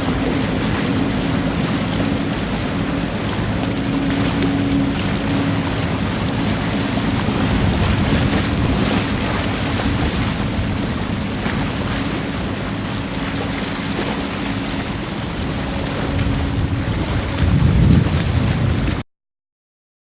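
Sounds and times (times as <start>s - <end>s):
jet engine roar: 0.0s - 19.0s
low hum: 0.0s - 19.0s
wind noise on microphone: 0.0s - 19.0s.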